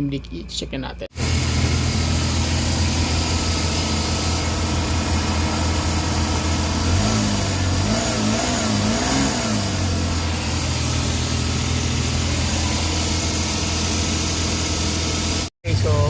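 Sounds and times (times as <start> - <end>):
car engine idling: 1.1 - 16.0.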